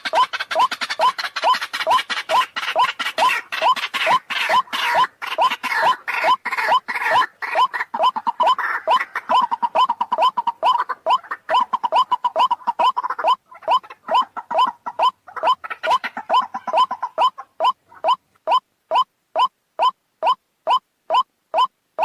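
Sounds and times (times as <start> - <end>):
waterhen calling: 0.0 - 22.0.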